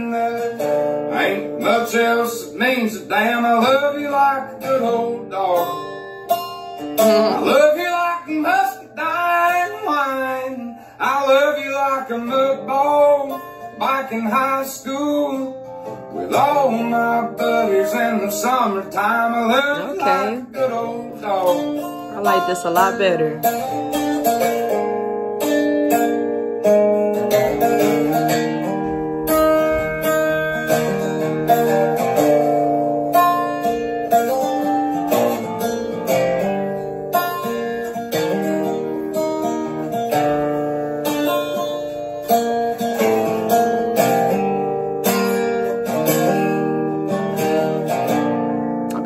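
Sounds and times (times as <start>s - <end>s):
acoustic guitar picking and strumming: 0.0s - 49.0s.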